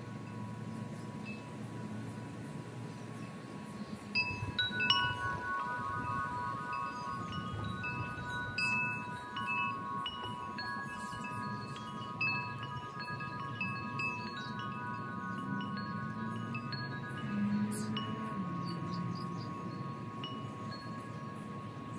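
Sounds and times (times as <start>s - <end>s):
wind chimes ringing: 0.0s - 21.9s.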